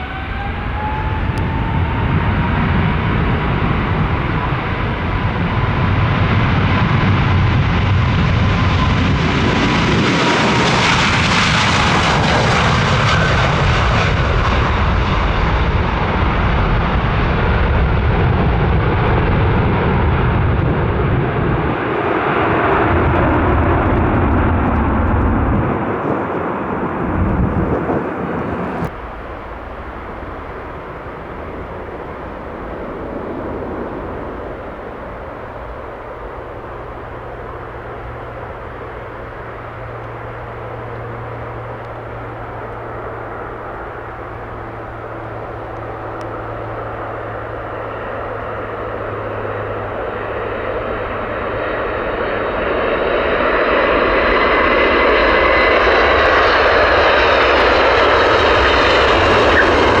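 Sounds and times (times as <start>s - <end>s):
high jet engine whine: 0.0s - 60.0s
jet engines roaring: 0.0s - 60.0s.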